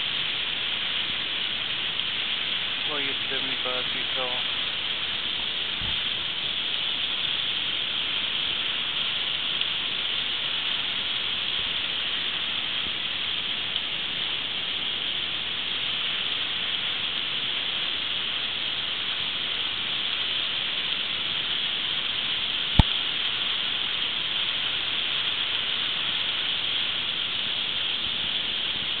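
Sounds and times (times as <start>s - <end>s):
waterfall rushing onto boulders: 0.0s - 29.0s.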